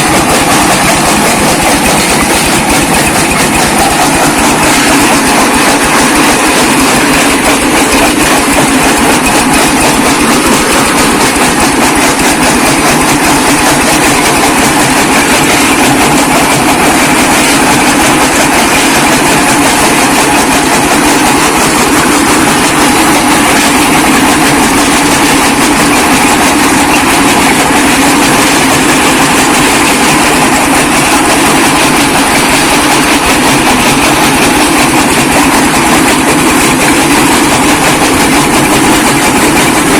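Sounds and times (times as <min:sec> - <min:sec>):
brick crusher machine running: 0:00.0 - 0:39.9.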